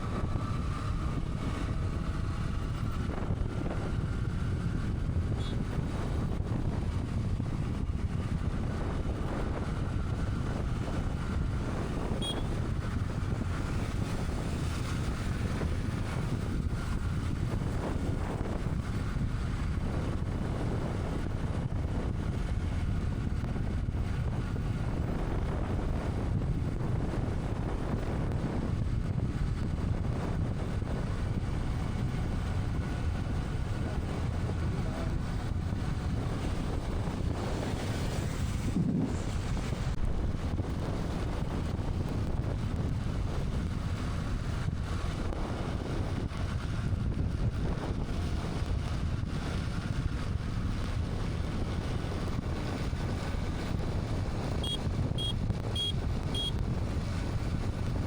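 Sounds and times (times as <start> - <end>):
road and engine rumble: 0.0 - 58.0
wind rushing over microphone: 0.0 - 58.0.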